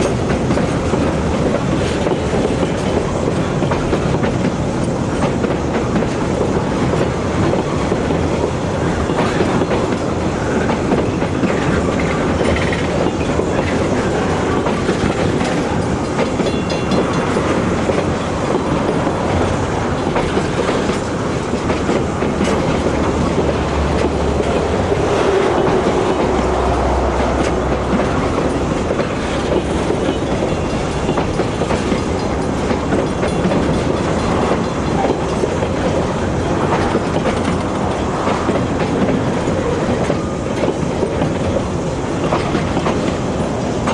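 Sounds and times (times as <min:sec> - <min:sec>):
freight train passing: 0:00.0 - 0:43.9
wheels clattering on rails: 0:00.0 - 0:43.9.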